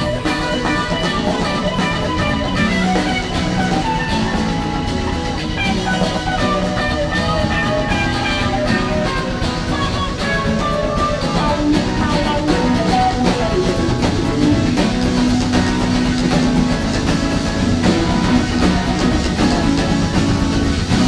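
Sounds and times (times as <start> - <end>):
bass guitar: 0.0 - 21.0
drum kit: 0.0 - 21.0
electric guitar melody: 0.0 - 21.0.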